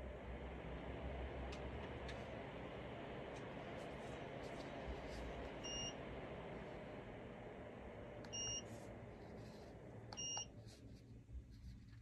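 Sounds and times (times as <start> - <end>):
fan air rushing: 0.0 - 12.0.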